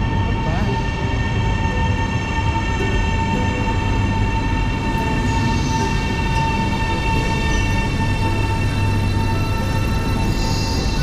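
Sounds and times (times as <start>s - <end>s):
high-pitched whine: 0.0s - 11.0s
train rumbling: 0.0s - 11.0s.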